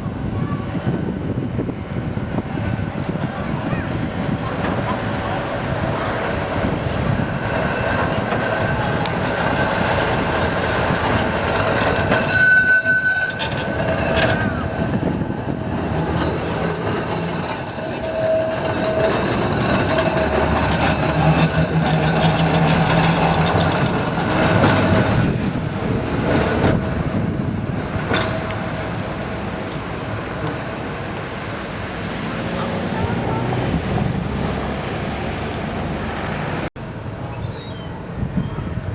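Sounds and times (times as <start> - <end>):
tram running gear rumble: 0.0 - 38.9
tram wheels squealing: 3.3 - 35.1.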